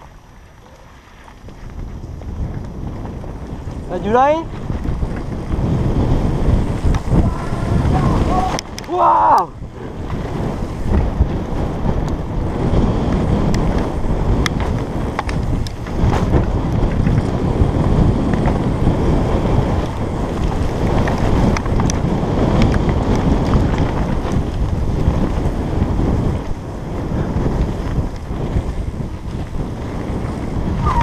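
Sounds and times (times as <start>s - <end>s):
bike clicks and rattles: 0.0s - 31.0s
tyres rumbling on dirt and leaves: 0.0s - 31.0s
wind rushing over microphone: 0.0s - 31.0s.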